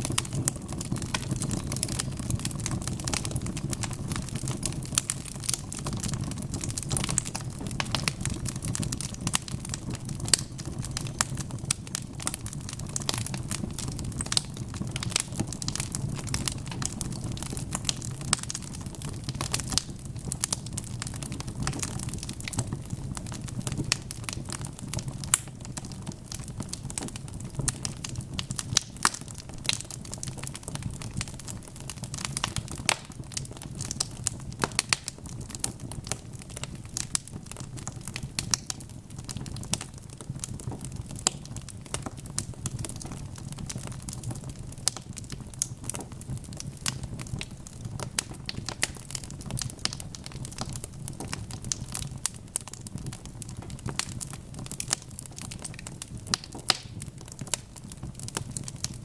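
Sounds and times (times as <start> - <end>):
wood fire crackling in a fireplace: 0.0 - 59.0.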